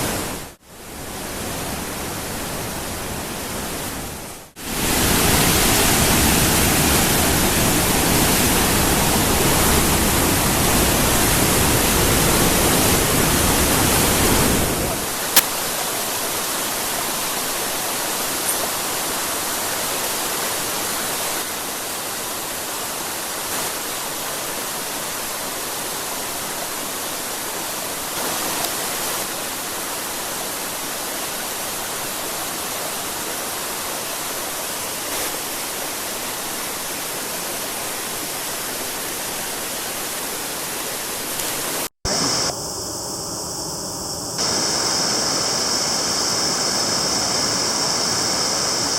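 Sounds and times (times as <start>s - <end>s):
rushing water: 0.0s - 42.5s, 44.4s - 48.9s.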